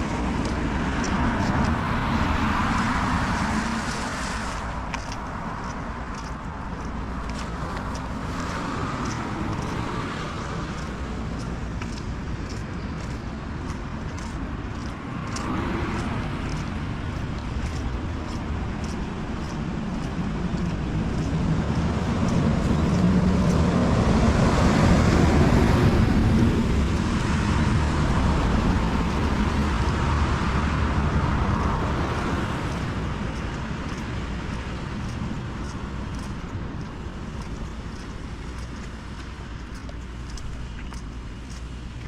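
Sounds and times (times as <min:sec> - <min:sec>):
vehicle passing on wet road: 0:00.0 - 0:42.0.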